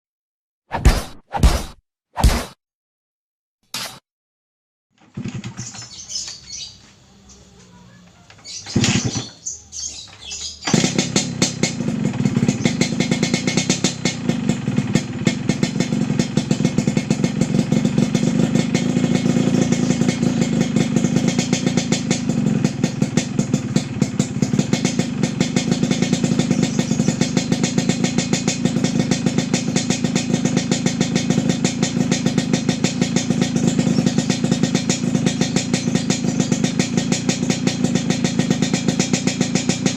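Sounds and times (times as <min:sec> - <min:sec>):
two-stroke motorcycle engine: 0:05.0 - 0:06.8, 0:08.4 - 0:39.9.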